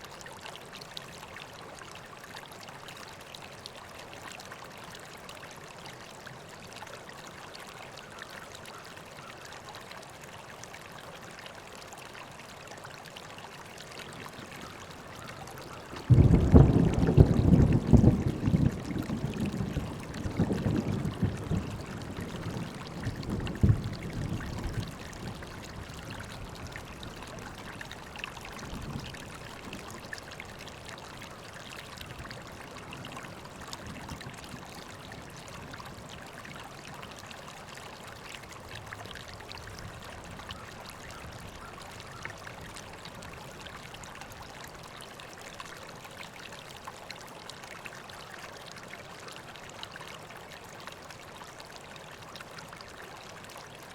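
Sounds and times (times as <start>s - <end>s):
river water flowing: 0.0s - 53.9s.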